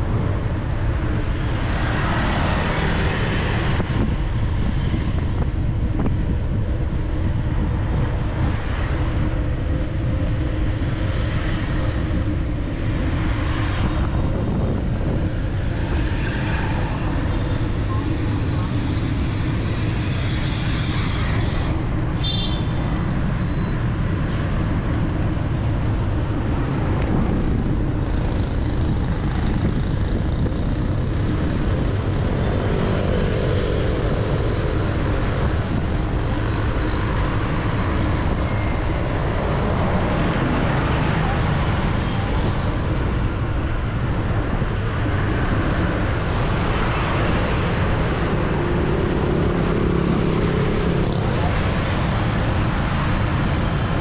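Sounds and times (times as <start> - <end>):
dense traffic rumble: 0.0 - 54.0.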